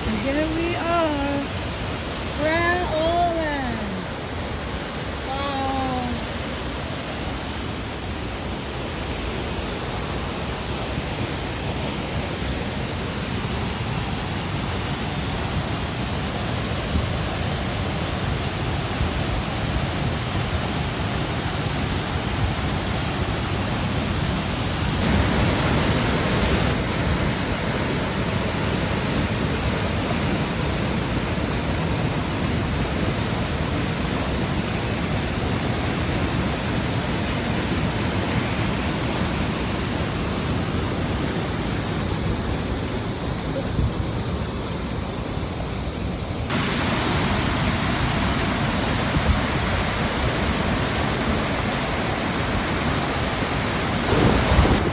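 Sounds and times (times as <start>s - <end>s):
waterfall rushing water: 0.0s - 43.6s, 46.0s - 54.9s.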